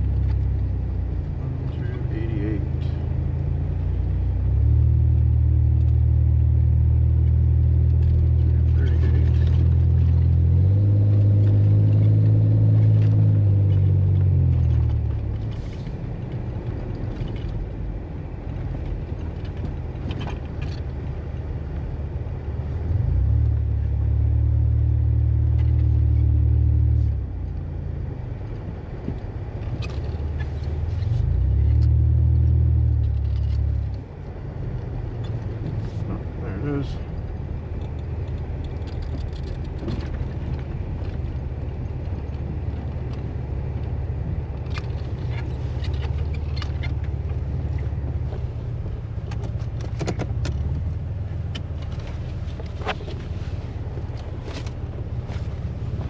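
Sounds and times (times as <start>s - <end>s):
vehicle engine droning under load: 0.0s - 56.0s.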